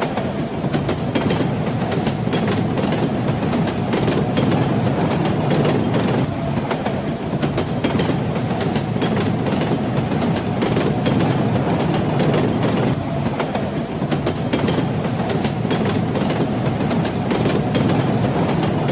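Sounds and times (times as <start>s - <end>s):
track clicks and clacks: 0.0s - 18.9s
train wheels rumbling on rails: 0.0s - 18.9s.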